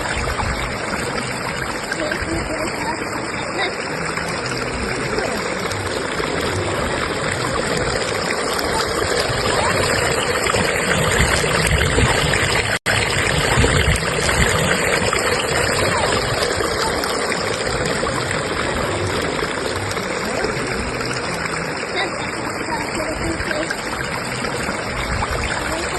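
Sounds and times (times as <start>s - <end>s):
fast-flowing stream babbling: 0.0s - 25.9s.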